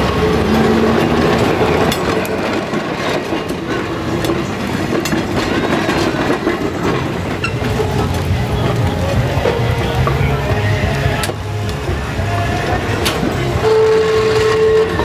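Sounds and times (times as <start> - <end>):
streetcar wheels clattering over rails: 0.0 - 15.0.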